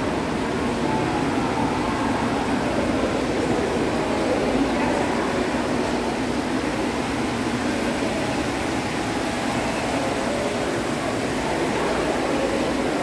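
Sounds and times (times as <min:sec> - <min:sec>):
air conditioning hum and hiss: 0:00.0 - 0:13.0.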